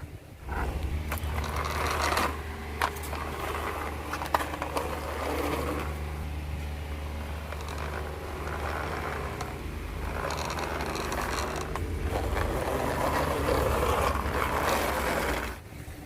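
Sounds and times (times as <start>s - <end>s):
toy car gears whirring and ratcheting: 0.5s - 6.2s, 7.2s - 15.6s.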